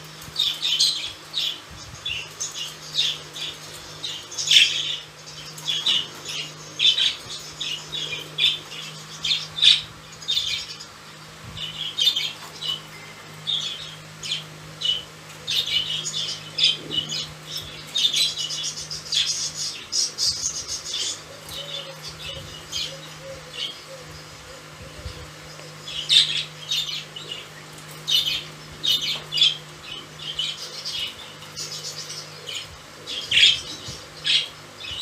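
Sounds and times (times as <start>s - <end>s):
budgerigars chirping and squawking: 0.2s - 35.0s.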